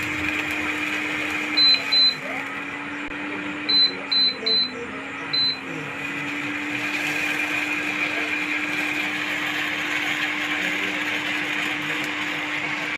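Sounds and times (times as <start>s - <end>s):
induction cooker fan humming: 0.0s - 12.9s.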